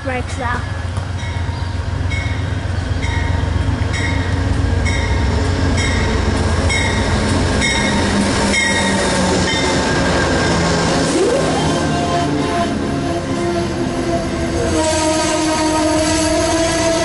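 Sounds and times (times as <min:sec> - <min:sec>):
passenger train braking to a stop: 0:00.6 - 0:17.0.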